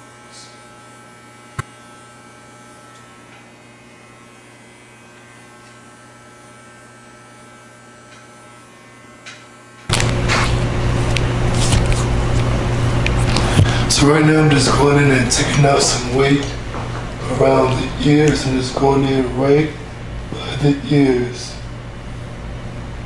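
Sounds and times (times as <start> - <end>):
electric hair clippers buzzing: 0.0 - 20.2.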